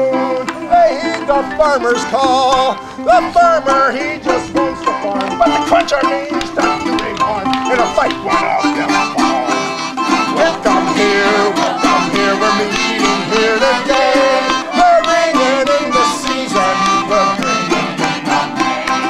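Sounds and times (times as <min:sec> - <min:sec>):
acoustic folk string music: 0:00.0 - 0:19.0.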